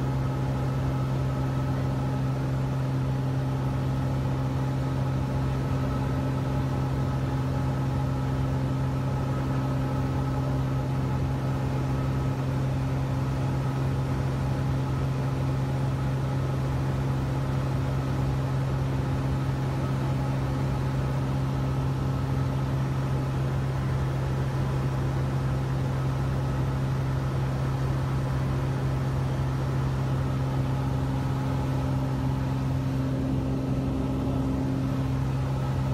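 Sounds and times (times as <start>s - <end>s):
propeller plane engine droning: 0.0s - 35.9s.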